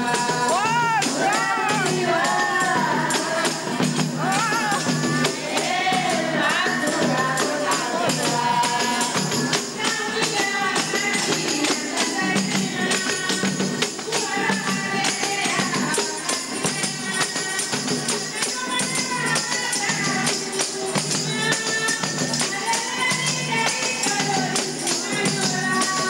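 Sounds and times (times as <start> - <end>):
frame drums beating: 0.0 - 26.0
women singing in chorus: 0.0 - 26.0.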